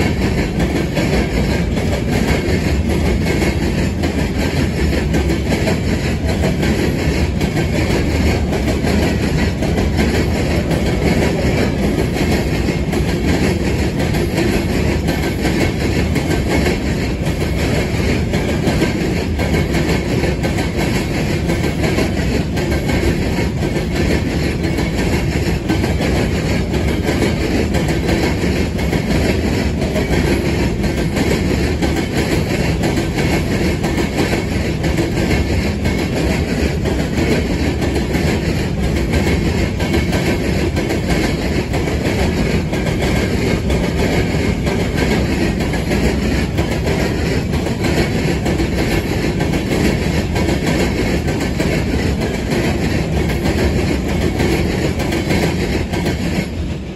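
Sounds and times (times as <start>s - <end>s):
train wheels clattering over crossing: 0.0s - 56.9s.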